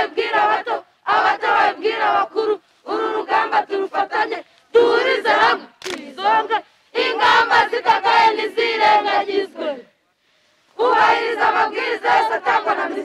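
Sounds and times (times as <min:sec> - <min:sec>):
children chanting in unison: 0:00.0 - 0:09.9, 0:10.8 - 0:13.0.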